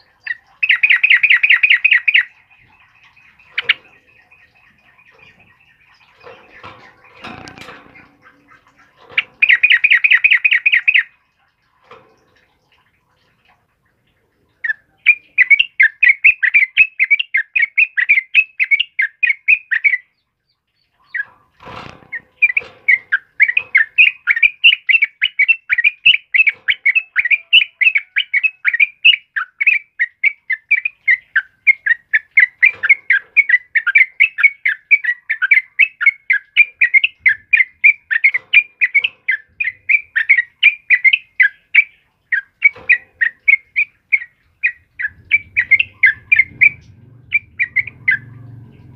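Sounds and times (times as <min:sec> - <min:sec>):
bird singing rapid chattering notes: 0:00.0 - 0:11.8, 0:13.8 - 0:48.9.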